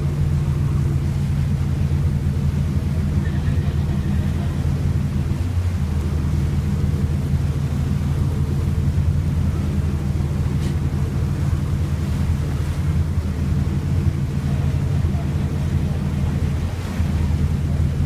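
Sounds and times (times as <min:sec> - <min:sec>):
boat engine droning: 0:00.0 - 0:18.0
water rushing in wake: 0:00.0 - 0:18.0.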